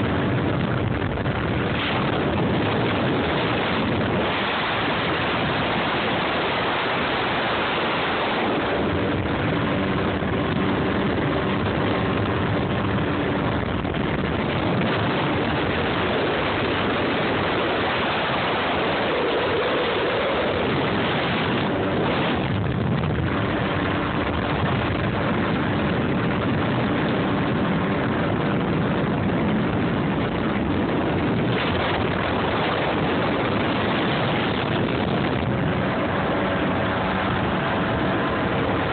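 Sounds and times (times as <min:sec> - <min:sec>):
jet ski engine running: 0:00.0 - 0:38.9
water rushing: 0:00.0 - 0:38.9
wind noise on microphone: 0:00.0 - 0:38.9.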